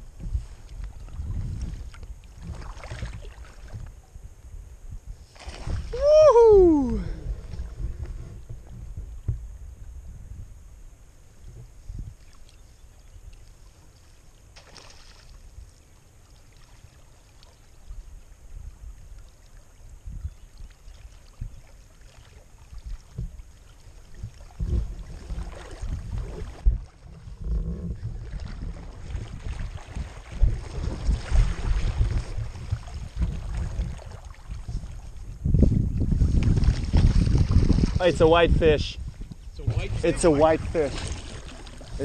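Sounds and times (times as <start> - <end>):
water lapping and swishing: 0.0 - 4.2, 5.2 - 9.4, 11.4 - 42.0
wind rumbling on microphone: 0.0 - 15.9, 16.8 - 42.0.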